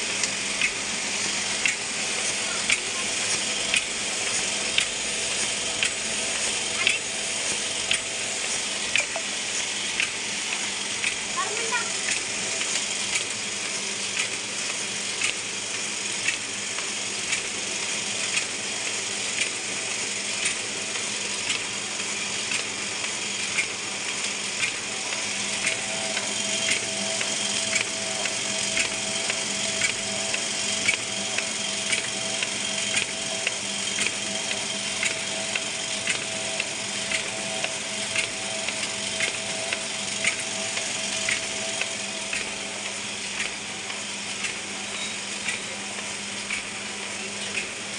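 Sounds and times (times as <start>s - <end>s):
printing press running: 0.0s - 47.9s.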